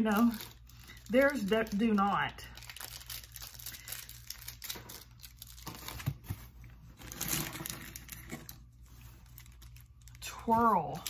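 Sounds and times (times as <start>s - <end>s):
wrappers crinkling: 0.0s - 6.2s, 6.9s - 11.0s.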